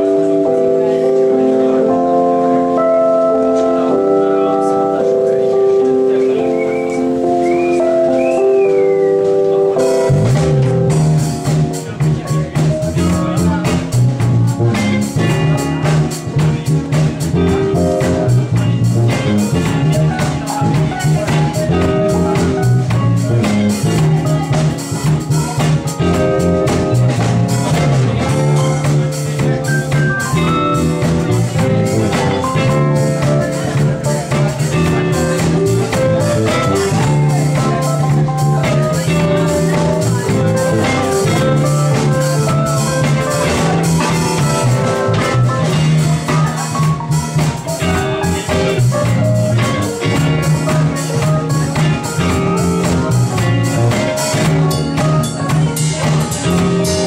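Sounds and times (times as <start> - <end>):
electric bass line: 0.0 - 57.0
electric guitar: 0.0 - 57.0
drum kit groove: 5.5 - 57.0.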